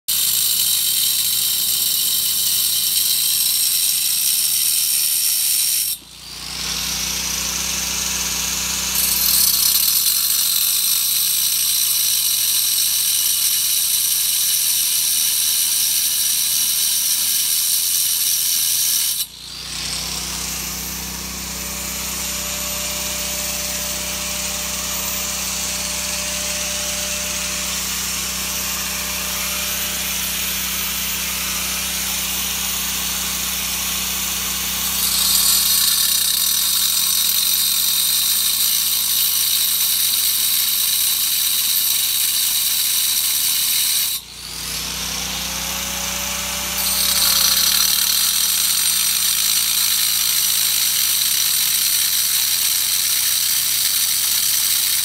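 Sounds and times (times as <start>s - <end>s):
angle grinder cutting stone: 0.1s - 55.0s.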